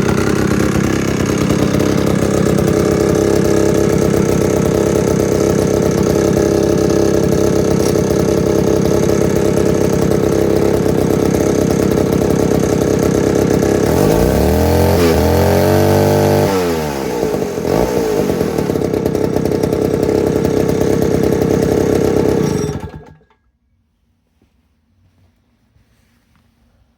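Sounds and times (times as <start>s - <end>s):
chainsaw engine running: 0.0s - 23.4s.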